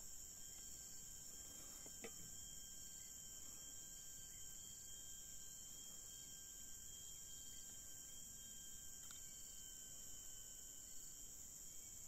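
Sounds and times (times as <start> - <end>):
forest insects droning: 0.0 - 12.0
thin steady tones: 0.0 - 12.0.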